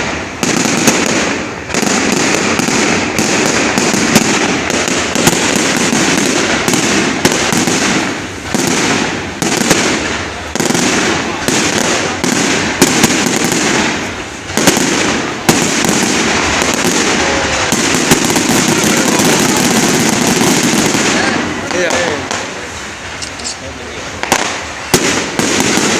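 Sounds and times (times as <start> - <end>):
fireworks crackling and banging: 0.0 - 25.9.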